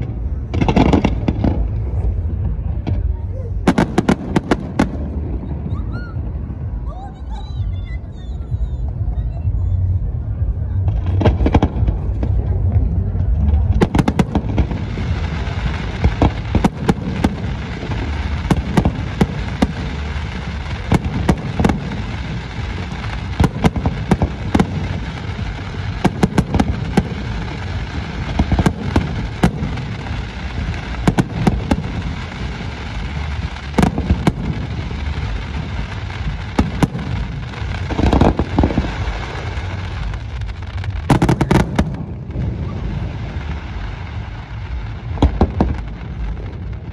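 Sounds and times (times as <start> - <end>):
fireworks bursting: 0.0 - 46.9
low rumble: 0.0 - 46.9.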